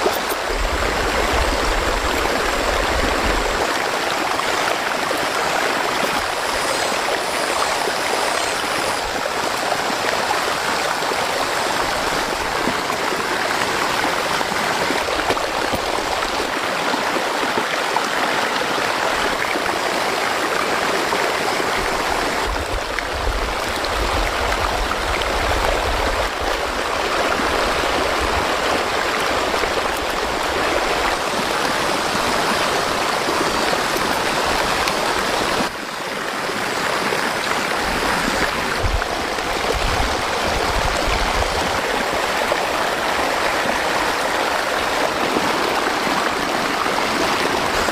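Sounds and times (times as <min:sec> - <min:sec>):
floodwater rushing: 0:00.0 - 0:47.9.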